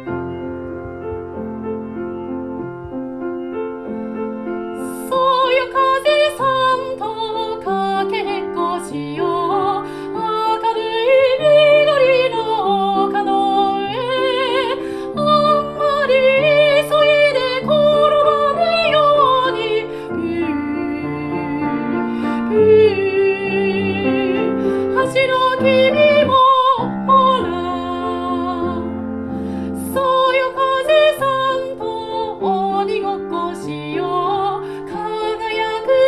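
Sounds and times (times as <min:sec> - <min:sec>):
gentle piano accompaniment: 0:00.0 - 0:36.0
classical singing voice with vibrato: 0:04.6 - 0:36.0.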